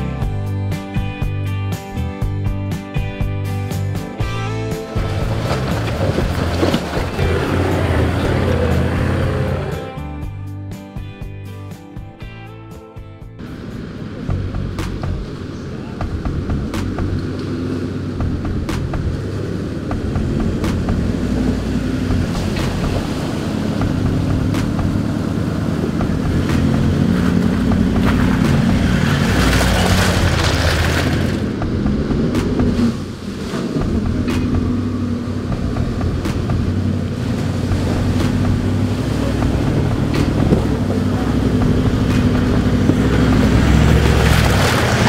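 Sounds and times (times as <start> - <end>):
vehicle engines running slowly: 3.5 - 10.4, 13.4 - 45.0
water splashing: 4.8 - 9.9, 13.5 - 45.0.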